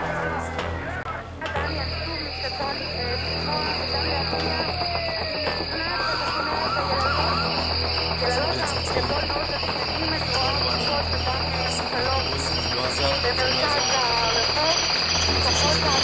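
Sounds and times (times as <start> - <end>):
low steady hum: 0.0 - 16.0
crickets trilling: 1.6 - 16.0.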